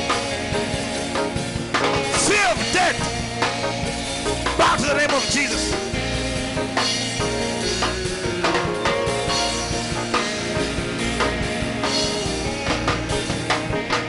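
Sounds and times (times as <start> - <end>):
bass: 0.0 - 14.0
drum kit beat: 0.0 - 14.0
sustained keyboard chords: 0.0 - 14.0.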